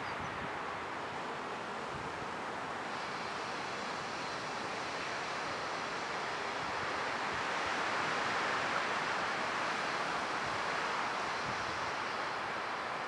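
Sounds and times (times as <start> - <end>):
wind rustling through trees: 0.0 - 13.0.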